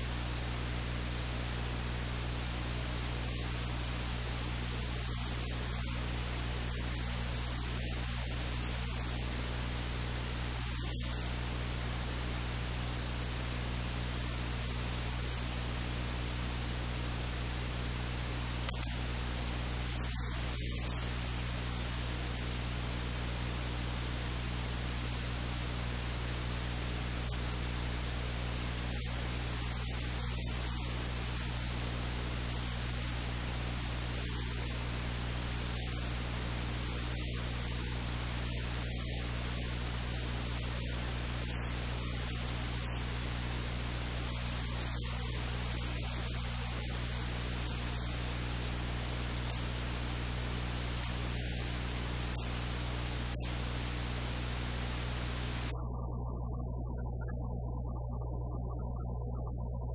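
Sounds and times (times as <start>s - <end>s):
low electrical hum: 0.0s - 59.9s
steady hiss: 0.0s - 59.9s.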